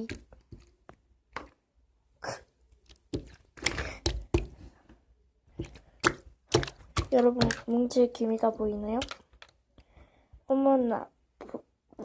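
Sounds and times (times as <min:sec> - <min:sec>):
slime stirred in container: 0:00.0 - 0:09.7
slime squelching: 0:00.0 - 0:10.3.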